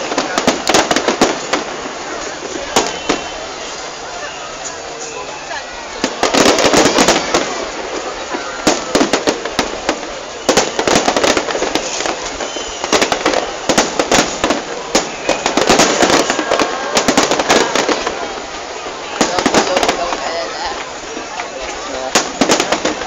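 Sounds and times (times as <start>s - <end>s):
fireworks crackling pops: 0.0s - 23.0s.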